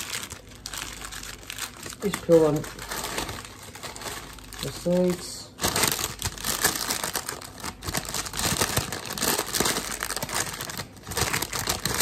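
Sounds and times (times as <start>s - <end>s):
parchment paper crinkling: 0.0s - 12.0s.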